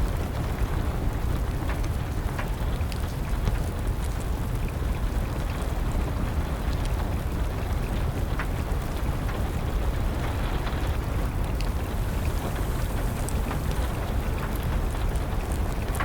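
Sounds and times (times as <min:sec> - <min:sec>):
steady rain: 0:00.0 - 0:16.0
wood fire crackling and popping: 0:00.1 - 0:16.0.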